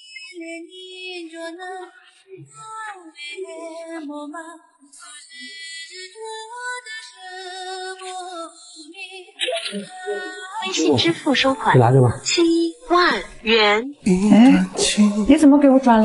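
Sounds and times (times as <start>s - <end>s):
woman singing: 0.0s - 16.0s.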